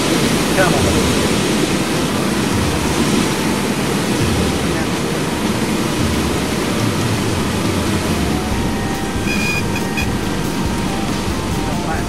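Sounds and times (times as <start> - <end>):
aircraft engine and propeller drone: 0.0 - 12.0.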